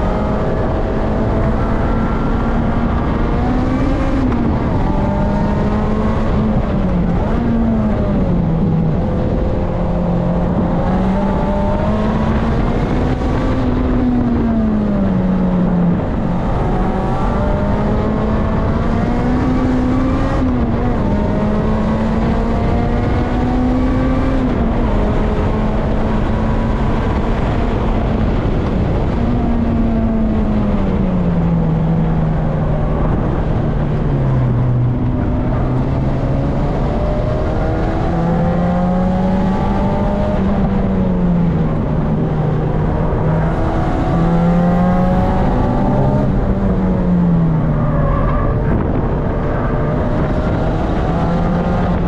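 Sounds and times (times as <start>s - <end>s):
car engine revving: 0.0s - 52.0s
road and tyre noise: 0.0s - 52.0s.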